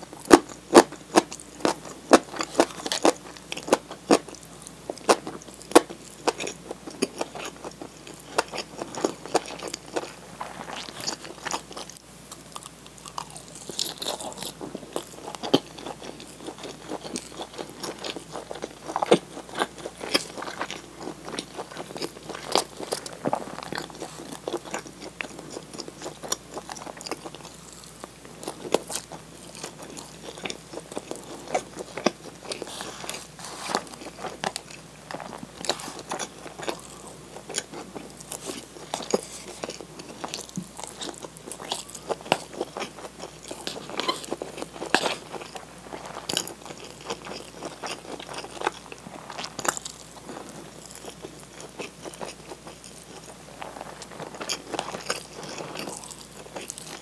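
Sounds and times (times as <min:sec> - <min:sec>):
person chewing with crunches: 0:00.0 - 0:57.0.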